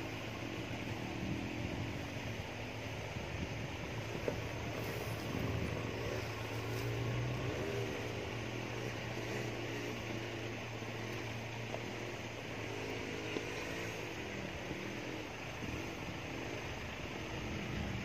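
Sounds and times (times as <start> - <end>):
vehicle engine running at low speed: 0.0 - 18.0.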